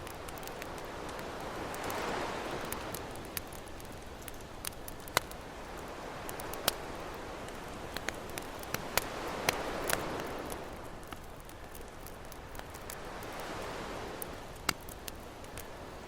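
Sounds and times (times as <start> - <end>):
campfire crackling and popping: 0.0 - 16.0
ocean waves washing: 0.0 - 16.0.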